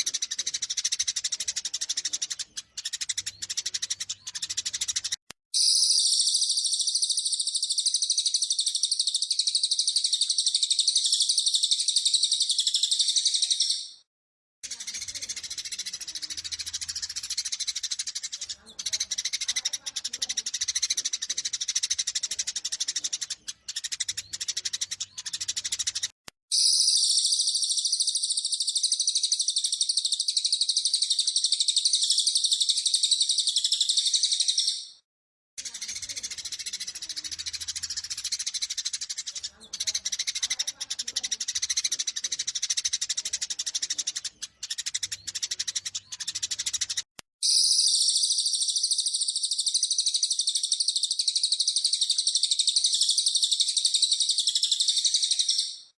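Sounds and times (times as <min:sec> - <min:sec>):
sparrows chirping and chattering: 0:00.0 - 0:35.0, 0:35.6 - 0:55.9.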